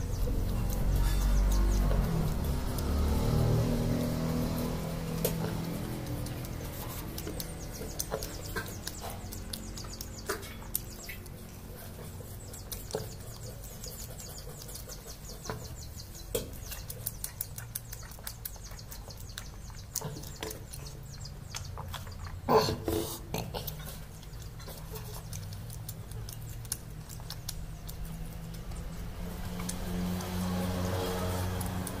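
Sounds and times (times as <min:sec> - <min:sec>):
chewing and lip-smacking: 0:00.0 - 0:32.0.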